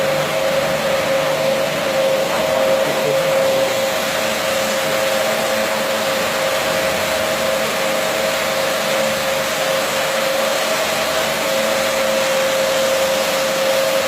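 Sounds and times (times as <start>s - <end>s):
carpet washing machine running: 0.0s - 14.0s.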